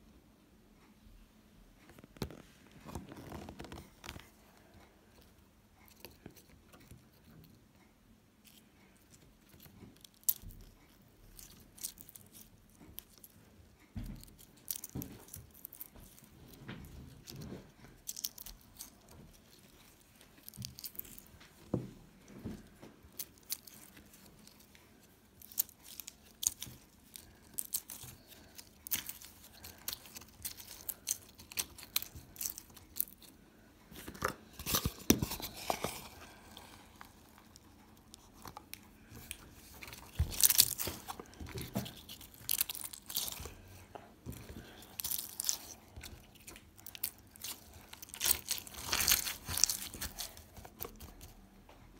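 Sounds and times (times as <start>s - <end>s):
hardened slime crackling: 8.3s - 51.7s.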